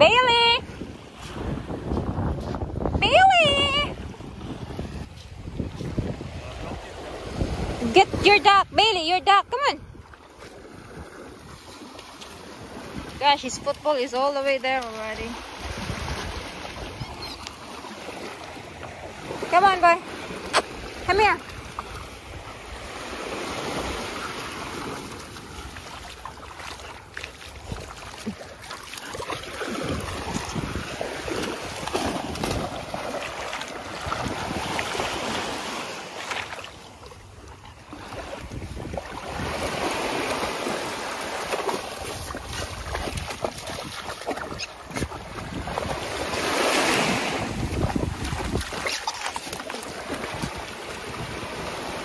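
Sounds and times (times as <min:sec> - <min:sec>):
wind buffeting microphone: 0:00.0 - 0:11.8, 0:12.4 - 0:26.2, 0:29.1 - 0:35.7, 0:37.2 - 0:41.0, 0:41.6 - 0:52.0
small waves washing on shore: 0:00.0 - 0:52.0
dog splashing through water: 0:10.1 - 0:52.0.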